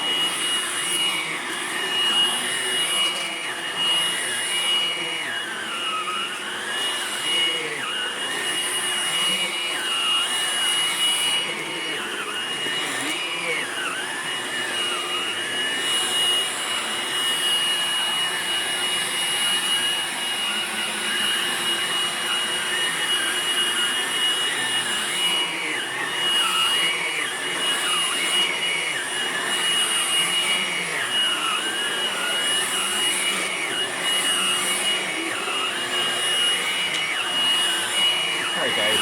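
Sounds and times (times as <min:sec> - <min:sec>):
vacuum cleaner whining: 0:00.0 - 0:39.0.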